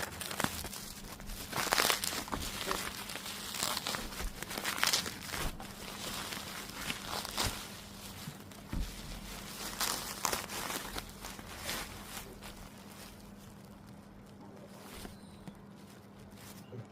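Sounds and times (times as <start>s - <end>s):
packaging crinkling and rustling: 0.0s - 16.9s.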